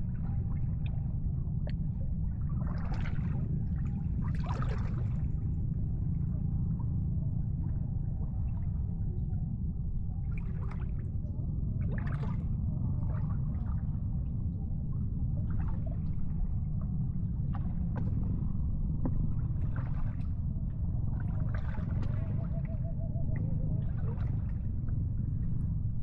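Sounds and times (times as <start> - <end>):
water sloshing and splashing: 0.0 - 6.1, 10.2 - 11.2, 11.8 - 26.0
steady low rumble: 0.0 - 26.0.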